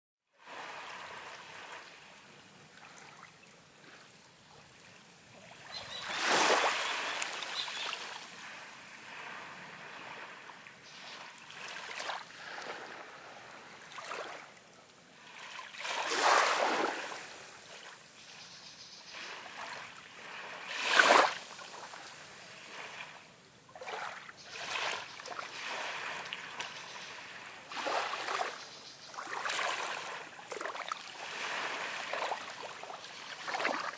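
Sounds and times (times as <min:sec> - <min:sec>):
small waves lapping on beach: 0:00.4 - 0:33.9.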